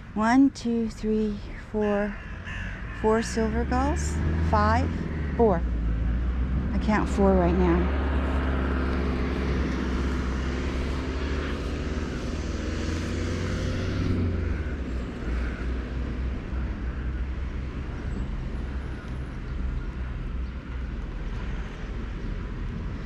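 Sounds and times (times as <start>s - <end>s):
passing vehicle engine drone: 1.8s - 23.0s.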